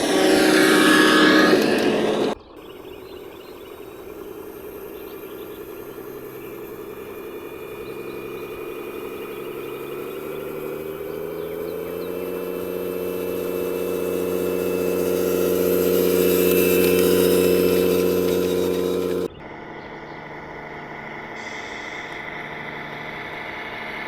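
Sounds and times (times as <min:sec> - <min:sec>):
toy vehicle motor humming: 0:00.0 - 0:19.3.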